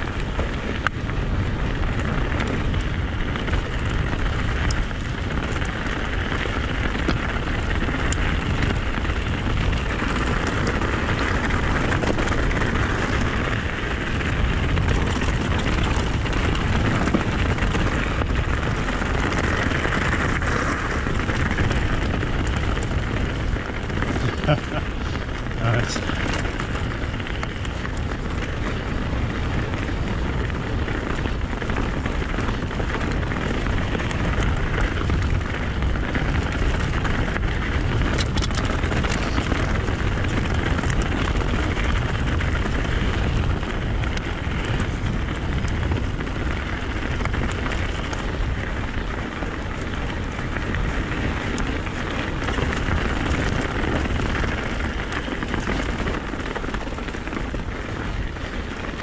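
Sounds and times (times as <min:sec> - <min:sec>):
bike rattle and clicks: 0:00.0 - 0:59.0
bike tyres crackling over stones: 0:00.0 - 0:59.0
wind rumble on microphone: 0:00.0 - 0:59.0.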